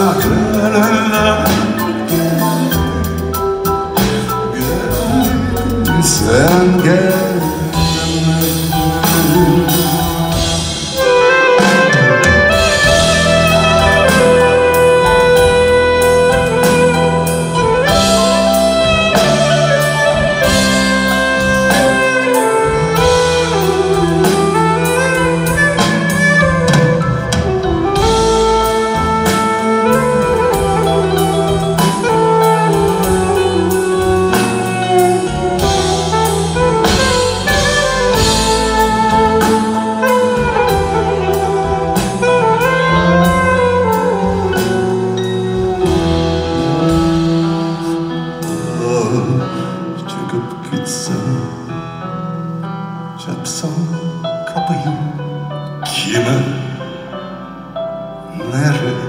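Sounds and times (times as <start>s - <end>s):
steady drum beat: 0.0s - 50.4s
bass: 0.0s - 59.0s
gliding lead melody: 0.0s - 59.0s.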